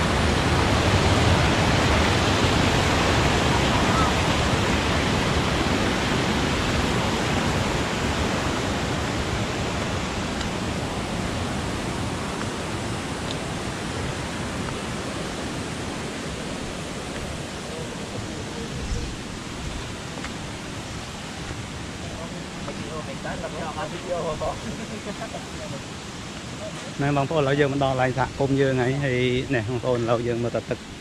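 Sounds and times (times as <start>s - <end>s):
water rushing over rocks: 0.0s - 31.0s.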